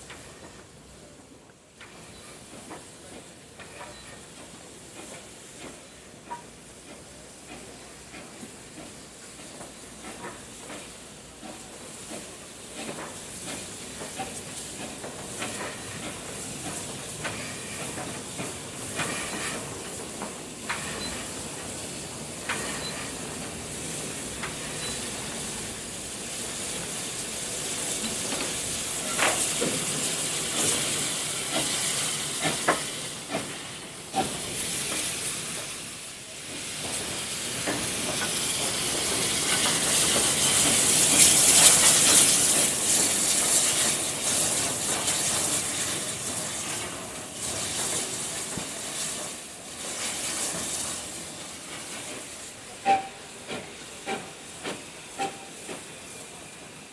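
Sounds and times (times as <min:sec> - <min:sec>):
steam hiss: 0:00.0 - 0:56.9.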